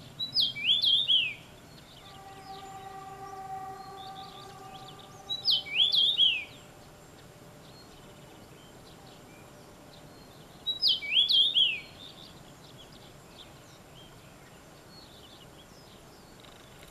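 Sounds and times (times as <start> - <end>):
bird singing whistled notes: 0.2 - 16.4.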